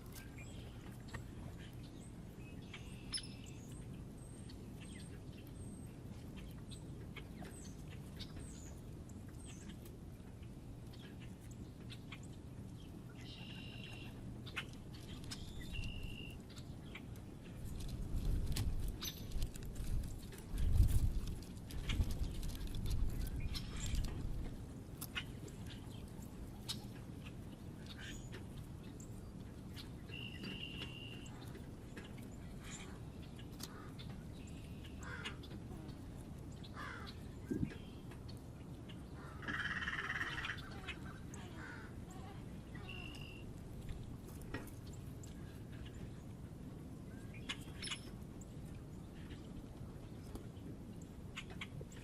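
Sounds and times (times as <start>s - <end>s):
birds chirping: 0.0s - 17.8s, 25.0s - 46.4s, 47.0s - 50.7s.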